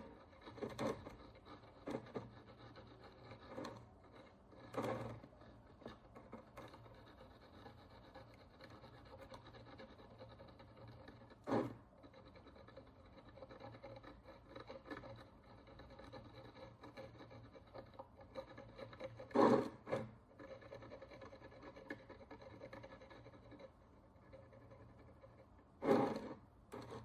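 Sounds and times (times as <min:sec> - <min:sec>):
hand tool scraping a coin: 0:00.0 - 0:27.0.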